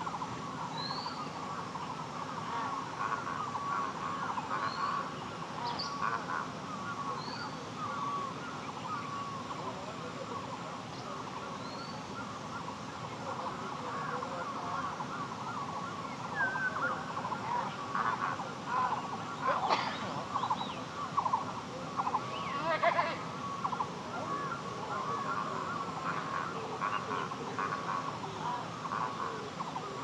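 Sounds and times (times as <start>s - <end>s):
chorus of birds chirping: 0.0s - 30.0s.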